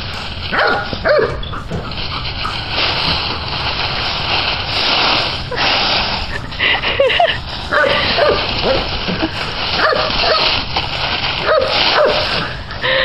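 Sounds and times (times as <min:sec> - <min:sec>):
dry leaves rustling and crunching: 0:00.0 - 0:13.0.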